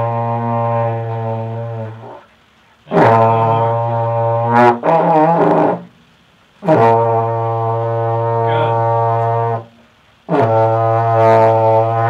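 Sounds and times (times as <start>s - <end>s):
trombone notes wavering: 0.0s - 2.3s, 2.9s - 6.0s, 6.6s - 12.0s.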